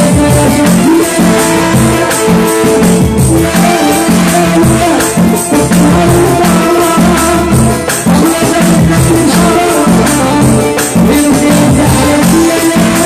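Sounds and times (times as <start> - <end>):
keyboard with bass line: 0.0 - 13.0
steady percussion beat: 0.0 - 13.0.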